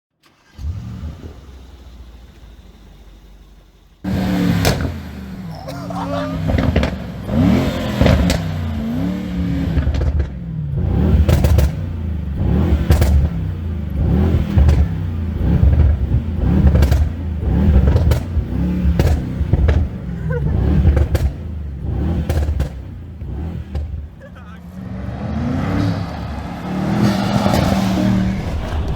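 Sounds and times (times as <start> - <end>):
car engine revving: 0.3 - 28.9
exhaust pops and crackles: 1.1 - 5.5, 6.4 - 24.6, 27.1 - 28.9.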